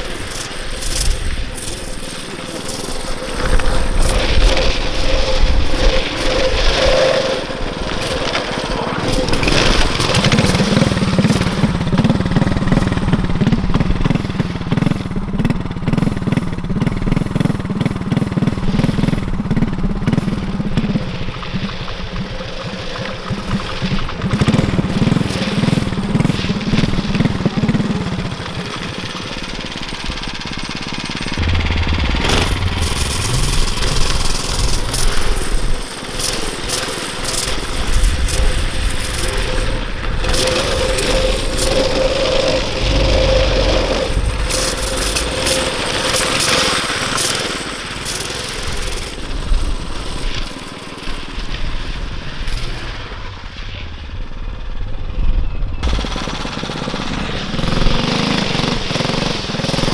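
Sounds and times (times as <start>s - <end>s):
small engine revving: 0.0s - 55.2s, 55.8s - 59.9s.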